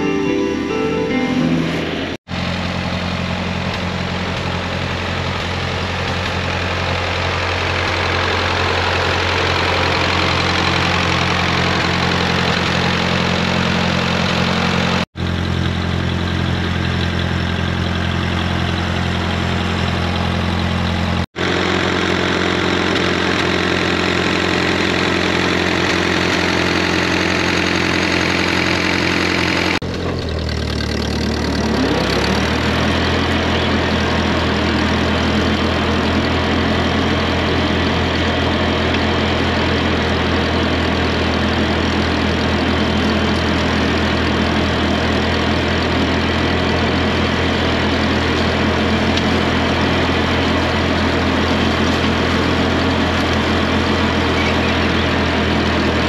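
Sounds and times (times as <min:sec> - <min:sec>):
mower rushing noise: 0:00.0 - 0:56.0
tractor engine running: 0:00.0 - 0:56.0.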